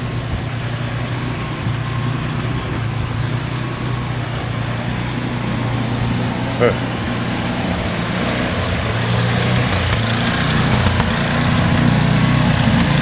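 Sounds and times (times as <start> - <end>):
engine running with hiss: 0.0 - 13.0.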